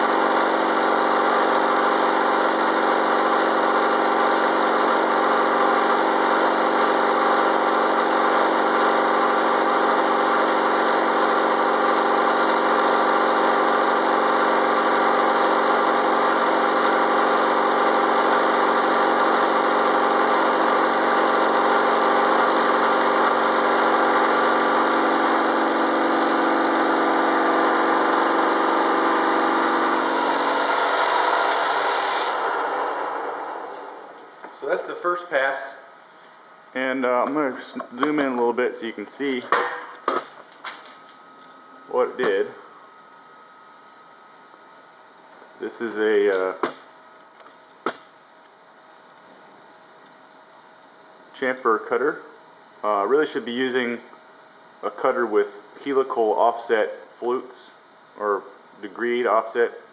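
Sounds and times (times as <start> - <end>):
milling machine hum: 0.0 - 51.3.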